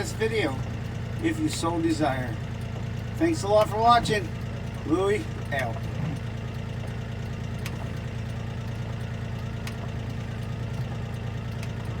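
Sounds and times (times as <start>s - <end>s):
faint ticking: 0.0s - 12.0s
tractor diesel engine idling: 0.0s - 12.0s.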